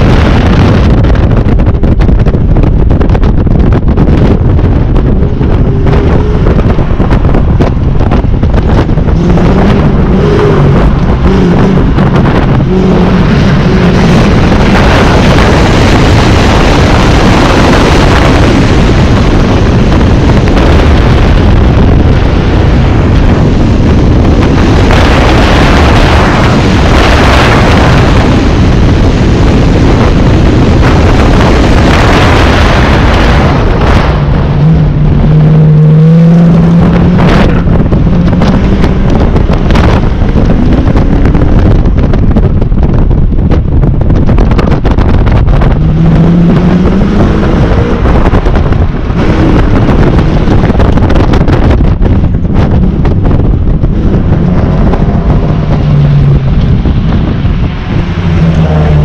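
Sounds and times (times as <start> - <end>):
car engine revving: 0.0 - 59.0
wind rush on microphone: 0.0 - 59.0.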